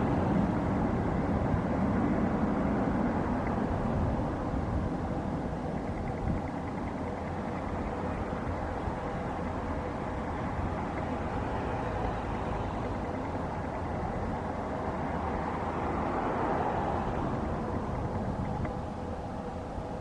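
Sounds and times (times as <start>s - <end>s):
faint jet engine whine: 0.0s - 20.0s.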